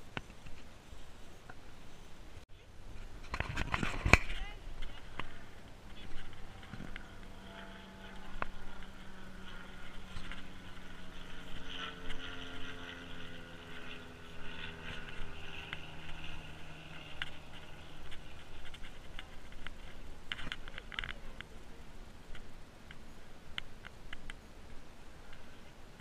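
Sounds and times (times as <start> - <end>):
distant engine humming: 0.0 - 26.0.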